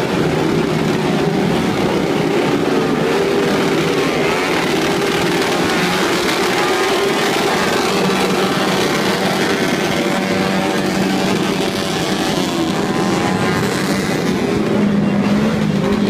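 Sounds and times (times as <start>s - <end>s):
motorcycle and scooter engines: 0.0s - 16.0s.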